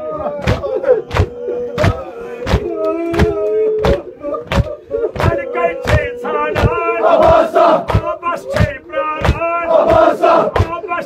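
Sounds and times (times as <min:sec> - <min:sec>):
men chanting: 0:00.0 - 0:11.0
sharp rhythmic thumps: 0:00.4 - 0:11.0.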